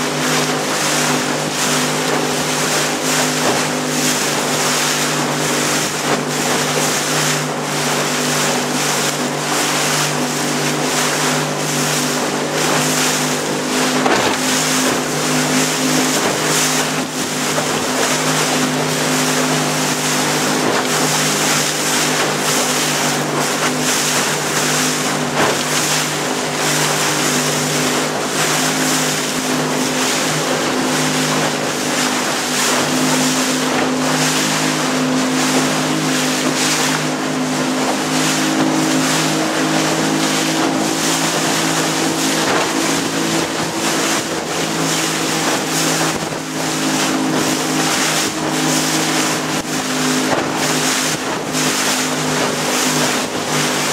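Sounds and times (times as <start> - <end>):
boat motor humming: 0.0 - 53.9
water noise from hull: 0.0 - 53.9.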